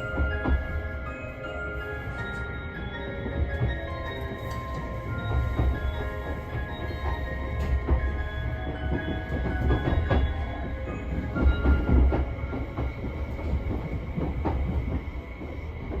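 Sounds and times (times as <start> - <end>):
train low rumble: 0.0 - 16.0
wheels clicking on rails: 0.0 - 16.0.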